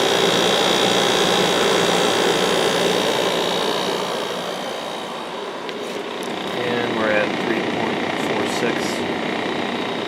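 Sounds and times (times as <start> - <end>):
air conditioner compressor humming: 0.0 - 10.0
fan running on high: 0.0 - 10.0.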